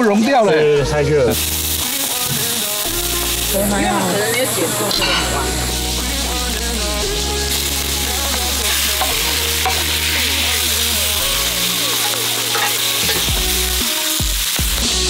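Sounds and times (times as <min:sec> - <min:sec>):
background music with bass: 0:00.0 - 0:15.0
seafood sizzling in skillet: 0:01.3 - 0:15.0.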